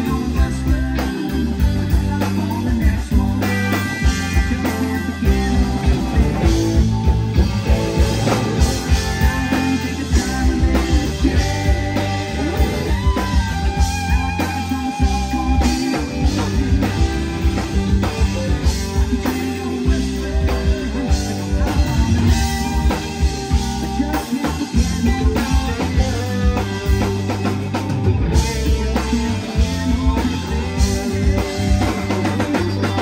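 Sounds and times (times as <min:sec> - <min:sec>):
drum kit beat: 0:00.0 - 0:33.0
electric guitars: 0:00.0 - 0:33.0
keyboards: 0:00.0 - 0:33.0.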